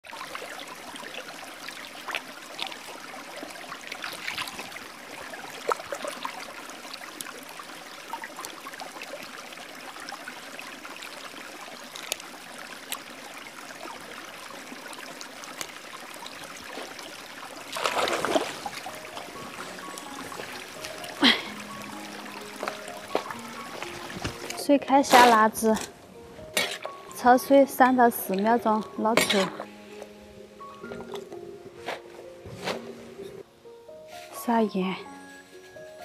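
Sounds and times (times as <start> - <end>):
stream trickling over stones: 0.0 - 31.4.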